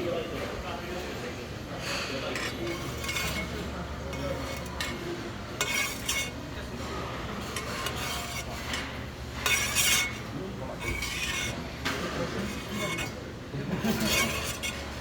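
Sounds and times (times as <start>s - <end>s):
utensils scraping and clinking dish: 1.8s - 15.0s.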